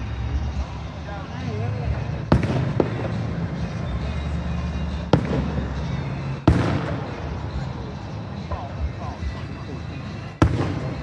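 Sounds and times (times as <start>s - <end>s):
fireworks bangs: 0.0s - 11.0s
low background rumble: 0.0s - 11.0s.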